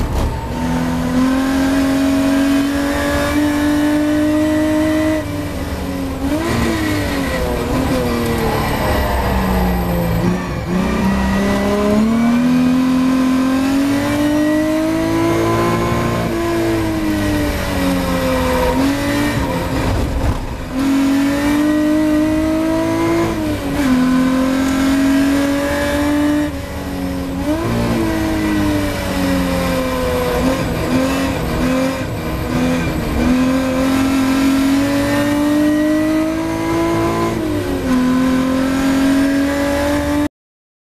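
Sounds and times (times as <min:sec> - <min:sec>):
race car engine revving: 0:00.0 - 0:40.3.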